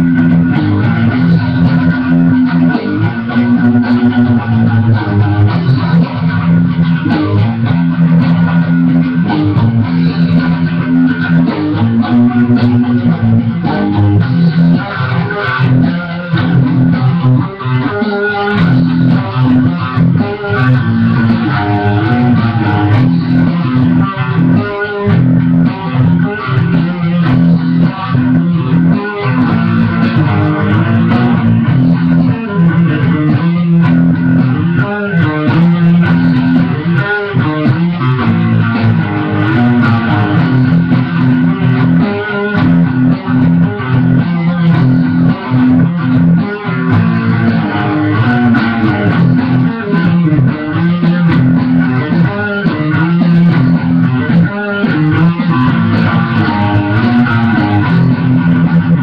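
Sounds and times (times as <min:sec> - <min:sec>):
guitar riff of low notes: 0:00.0 - 0:59.0
recorded drum track: 0:00.0 - 0:59.0.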